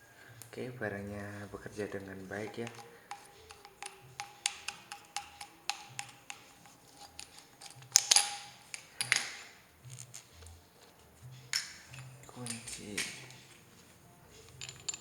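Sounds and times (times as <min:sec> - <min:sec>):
plastic and metal parts clacking: 0:00.0 - 0:15.0.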